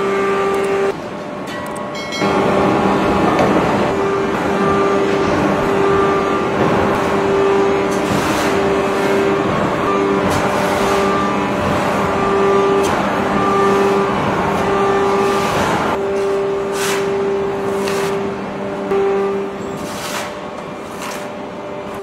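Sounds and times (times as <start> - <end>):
hydraulic press hum: 0.0 - 22.0.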